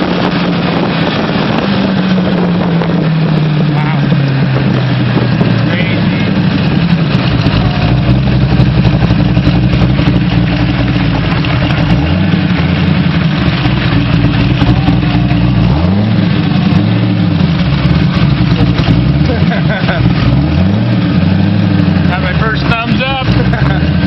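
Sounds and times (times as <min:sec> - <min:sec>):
car engine accelerating: 0:00.0 - 0:24.0
wind and road noise: 0:00.0 - 0:24.0.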